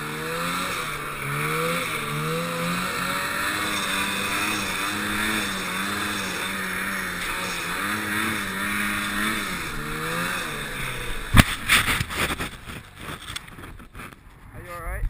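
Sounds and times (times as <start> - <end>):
snowmobile engine running: 0.0 - 14.6
snow crunching and rustling: 0.0 - 14.8.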